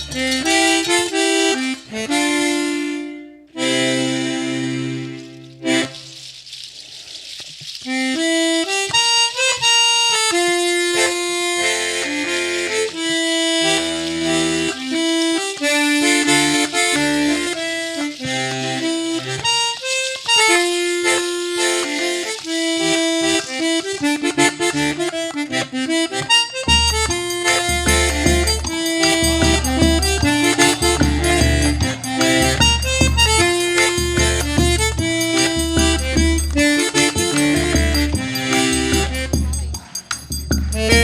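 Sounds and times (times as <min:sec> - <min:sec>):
accordion playing lively melody: 0:00.0 - 0:06.4, 0:07.9 - 0:41.0.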